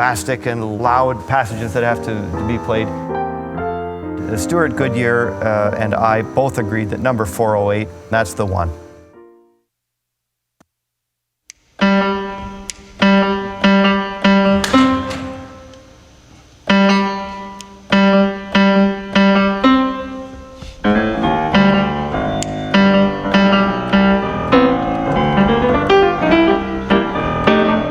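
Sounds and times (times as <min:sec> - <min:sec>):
piano chords: 0:00.0 - 0:09.6, 0:11.8 - 0:27.9.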